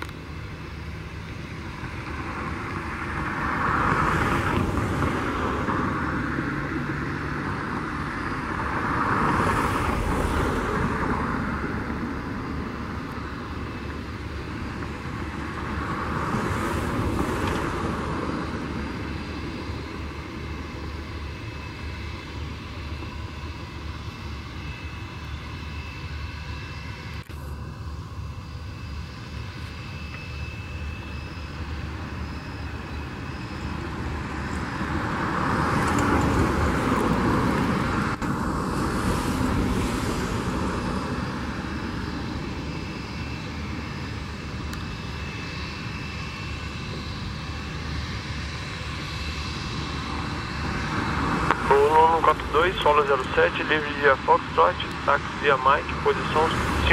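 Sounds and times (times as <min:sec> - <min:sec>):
high fan whine: 0:00.0 - 0:56.9
jet engines rumbling: 0:00.0 - 0:56.9.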